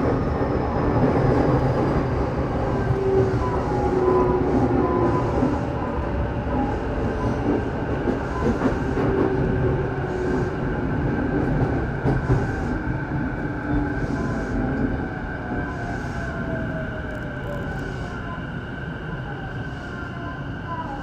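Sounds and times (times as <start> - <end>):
train wheels rumbling on rail: 0.0 - 18.8
whining train tones: 0.0 - 21.0.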